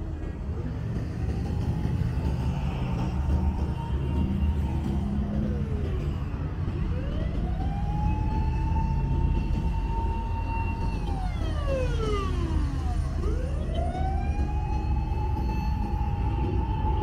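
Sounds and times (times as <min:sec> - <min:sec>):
emergency vehicle siren wailing: 0:00.0 - 0:17.0
low rumble of street noise: 0:00.0 - 0:17.0.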